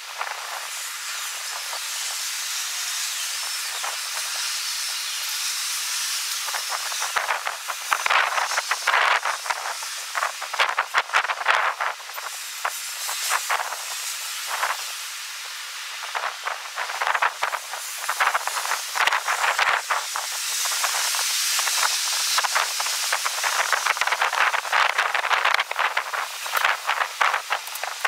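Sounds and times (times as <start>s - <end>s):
crackling wind gusts: 0.0s - 28.0s.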